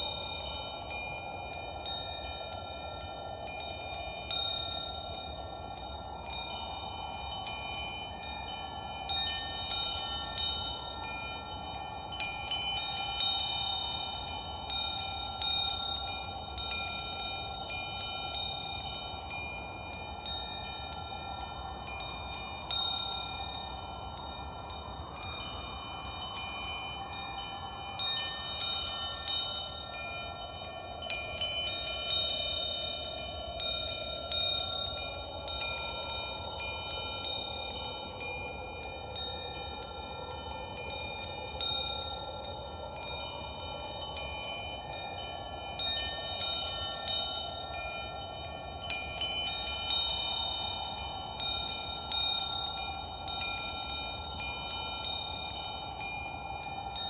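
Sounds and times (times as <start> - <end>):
metal wind chimes ringing: 0.0 - 57.0
steady hiss: 0.0 - 57.0.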